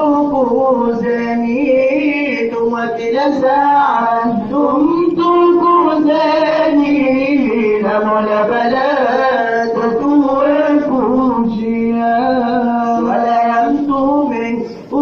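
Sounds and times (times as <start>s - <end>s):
lead singer on microphone: 0.0s - 15.0s
male voices singing devotional song: 0.0s - 15.0s.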